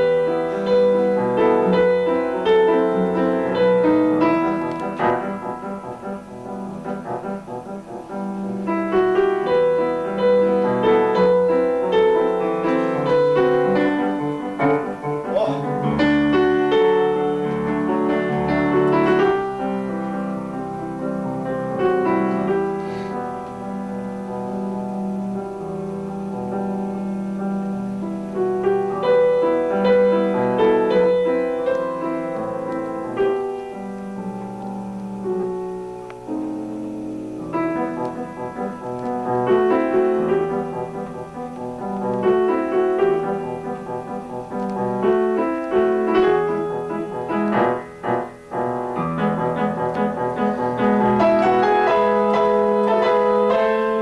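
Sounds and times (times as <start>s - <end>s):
piano piece: 0.0s - 54.0s.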